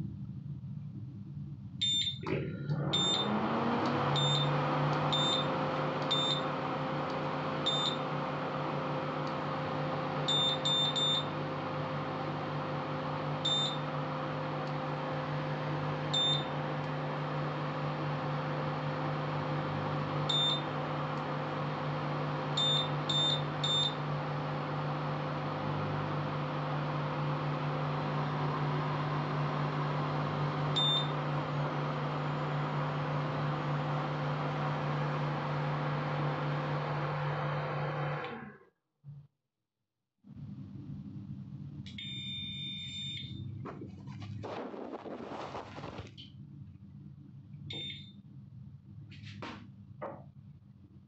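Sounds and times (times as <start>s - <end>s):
cooktop hum: 0.0s - 38.4s, 43.2s - 50.8s.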